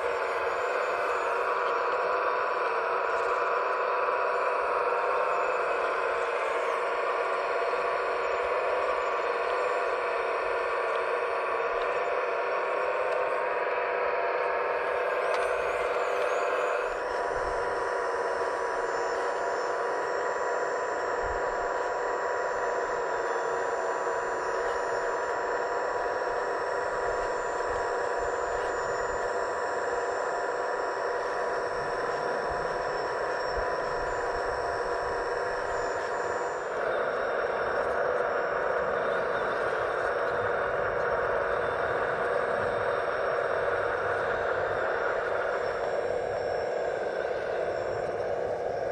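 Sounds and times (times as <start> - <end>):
hydraulic pump whining: 0.0 - 48.9.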